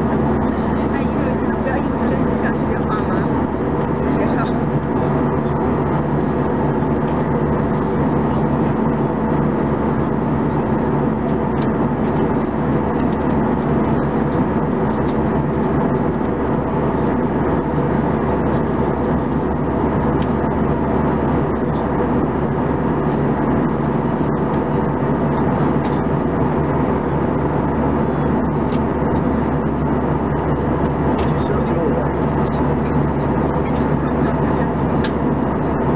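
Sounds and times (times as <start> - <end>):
jet engine hum: 0.0 - 35.9.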